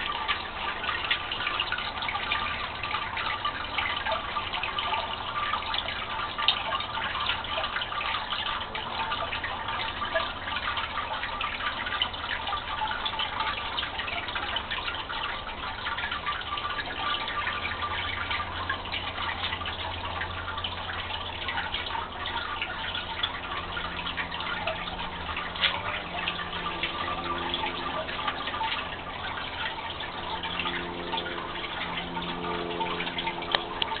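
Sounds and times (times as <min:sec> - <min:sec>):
water trickling and splashing on rocks: 0:00.0 - 0:34.0.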